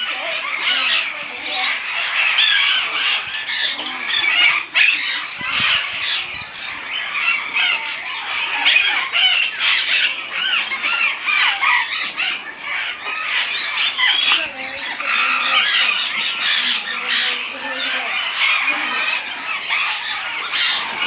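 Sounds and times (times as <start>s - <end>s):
parrots calling and squawking: 0.0s - 21.0s.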